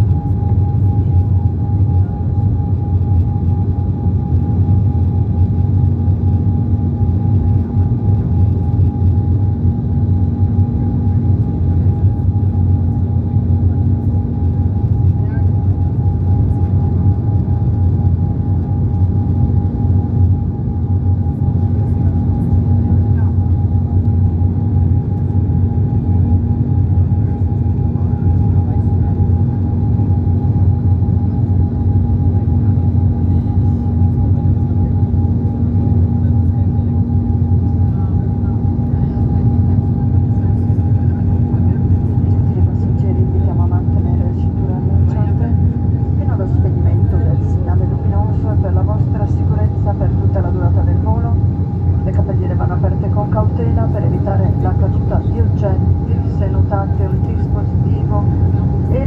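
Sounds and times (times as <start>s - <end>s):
airliner cabin engine rumble: 0.0s - 59.0s
steady whine: 0.0s - 59.0s.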